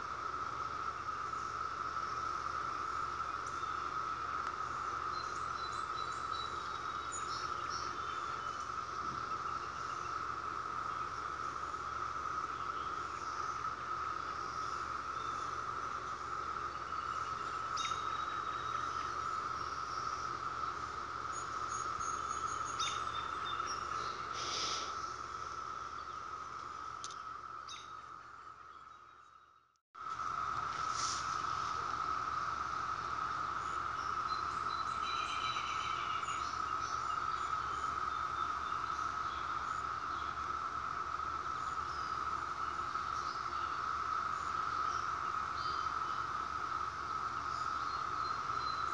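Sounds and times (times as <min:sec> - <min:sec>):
cicadas droning: 0:00.0 - 0:48.9.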